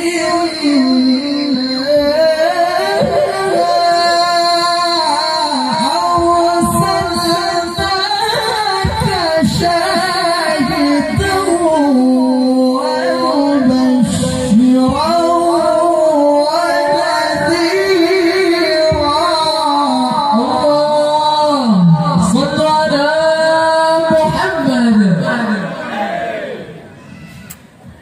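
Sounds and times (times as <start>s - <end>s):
man reciting melodically: 0.0s - 25.8s.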